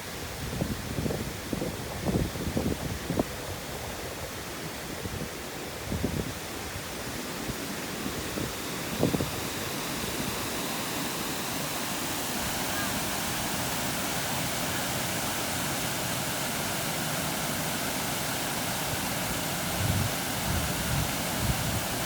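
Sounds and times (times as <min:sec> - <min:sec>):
flowing water rushing: 0:03.3 - 0:22.0.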